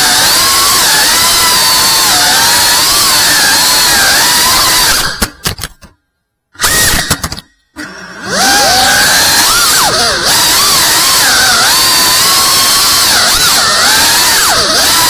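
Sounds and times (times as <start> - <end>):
drone motors whining: 0.0 - 5.4, 6.6 - 15.0.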